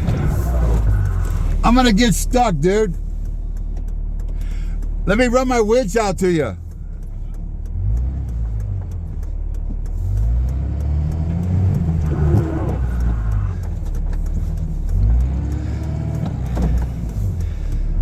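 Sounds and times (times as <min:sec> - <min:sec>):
pickup truck engine revving: 0:00.0 - 0:18.0.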